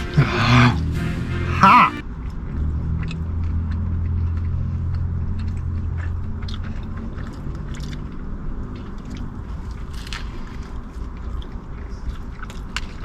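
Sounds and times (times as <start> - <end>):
car interior hum: 0.0 - 13.0
person chewing food: 2.0 - 13.0.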